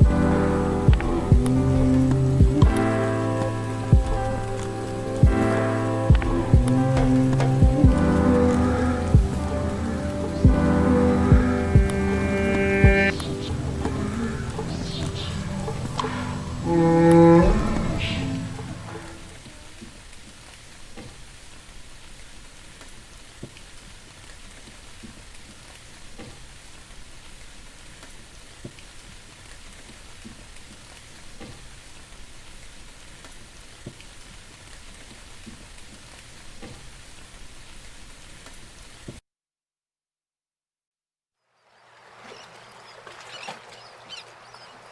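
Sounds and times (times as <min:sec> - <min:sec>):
rain falling: 0:00.0 - 0:39.2.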